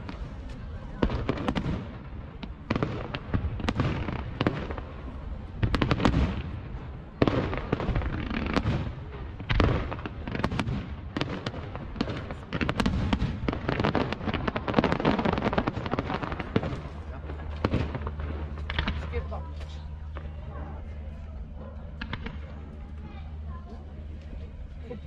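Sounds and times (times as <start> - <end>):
fireworks bangs: 0.0 - 21.1, 21.9 - 23.5.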